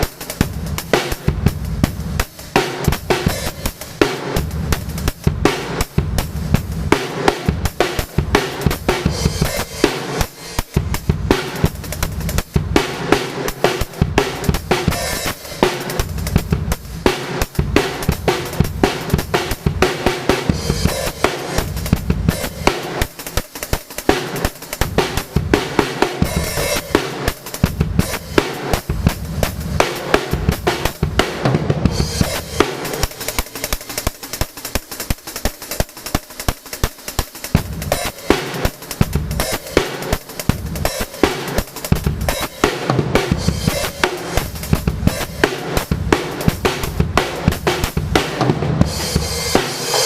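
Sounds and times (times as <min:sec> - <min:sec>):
fast punk drum kit: 0:00.0 - 0:50.0.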